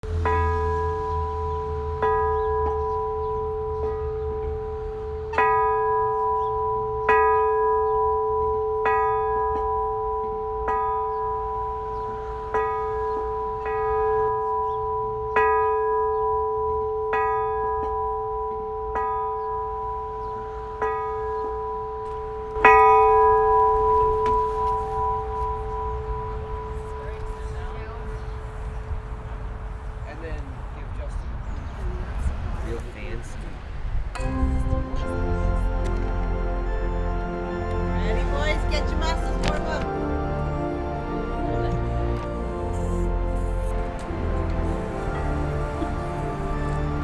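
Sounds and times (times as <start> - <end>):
church bell tolling: 0.0 - 28.4, 34.1 - 47.0.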